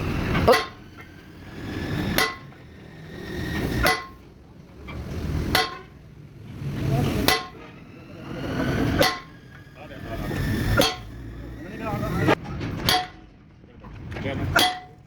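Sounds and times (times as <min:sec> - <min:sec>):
hammer striking steel ringing: 0:00.0 - 0:04.2, 0:05.3 - 0:06.0, 0:06.6 - 0:13.2, 0:14.6 - 0:15.0
rush of noise: 0:00.0 - 0:12.8.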